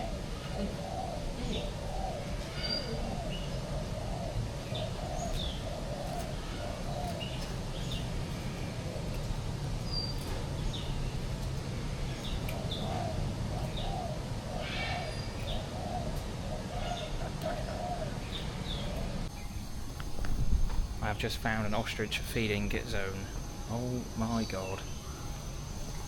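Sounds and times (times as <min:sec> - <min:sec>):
birds chirping: 0:00.0 - 0:26.0
birds cooing: 0:00.0 - 0:26.0.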